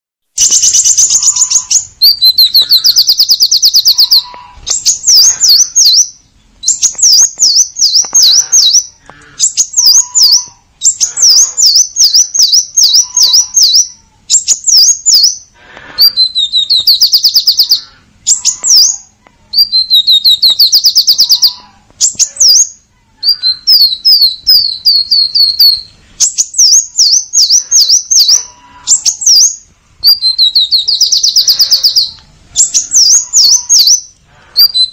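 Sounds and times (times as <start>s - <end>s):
bird singing high chirps: 0.3s - 34.9s.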